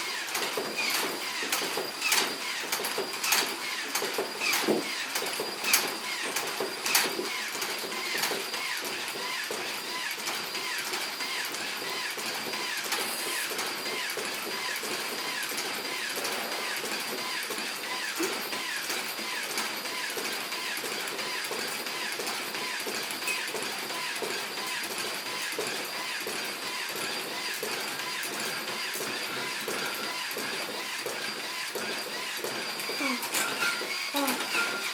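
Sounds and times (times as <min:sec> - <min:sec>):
small mechanical device running: 0:00.0 - 0:34.9.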